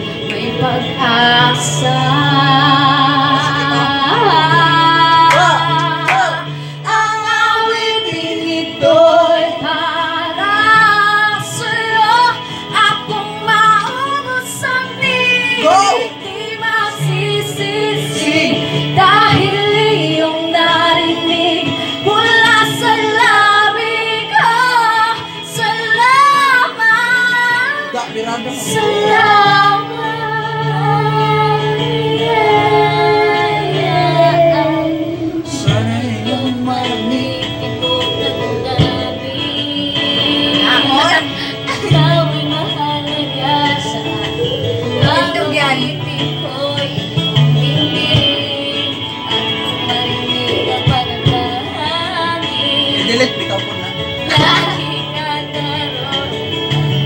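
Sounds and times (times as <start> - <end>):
karaoke backing track: 0.0 - 57.0
women singing into microphones: 0.0 - 57.0.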